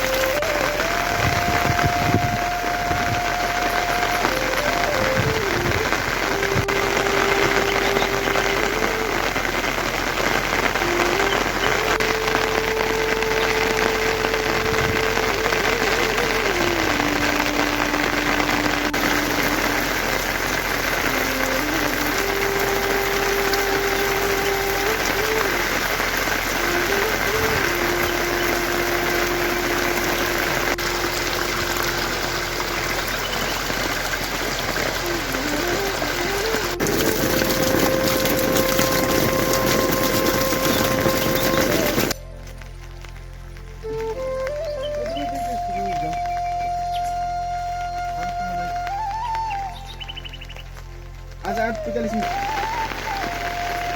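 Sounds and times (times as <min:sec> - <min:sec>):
heavy rain falling: 0:00.0 - 0:53.9
low tone stepping in pitch: 0:00.0 - 0:53.9.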